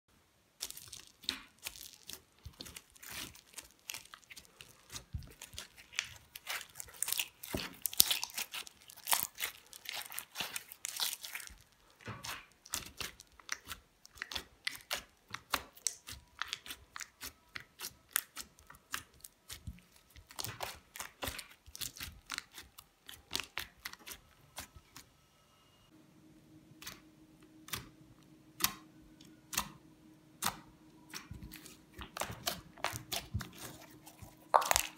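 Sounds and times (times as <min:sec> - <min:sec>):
slime crackling and popping: 0:00.6 - 0:24.7, 0:30.4 - 0:34.9.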